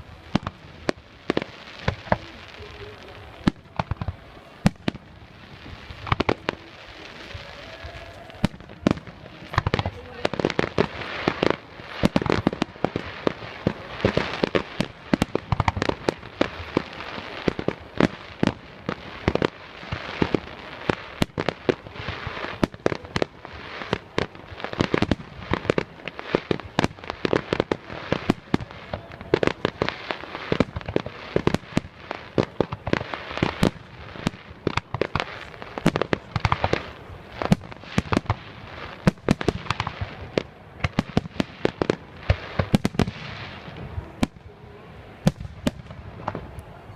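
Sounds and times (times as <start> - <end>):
fireworks bangs and bursts: 0.0 - 46.9
fireworks crackling: 0.0 - 46.9.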